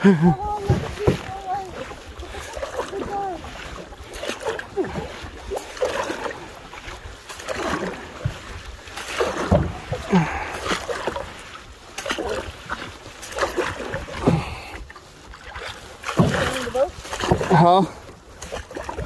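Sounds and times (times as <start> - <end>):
canoe paddles stroking water: 0.0 - 19.0.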